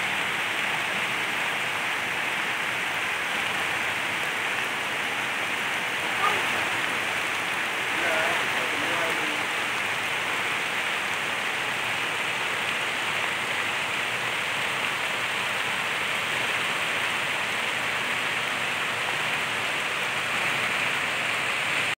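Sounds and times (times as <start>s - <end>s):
heavy rain on water and grass: 0.0s - 22.0s.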